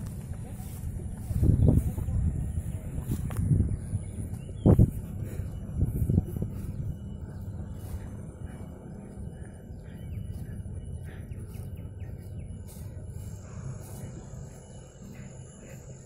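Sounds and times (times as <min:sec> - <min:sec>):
low rumble: 0:00.0 - 0:16.0
thin high steady tone: 0:00.0 - 0:16.0
faint bird chirps: 0:00.5 - 0:16.0.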